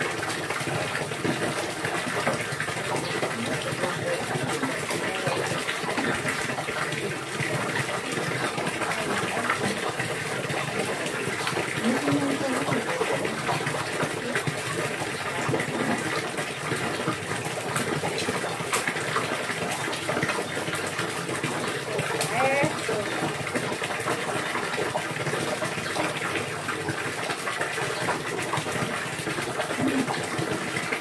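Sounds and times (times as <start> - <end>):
running water gushing: 0.0 - 31.0.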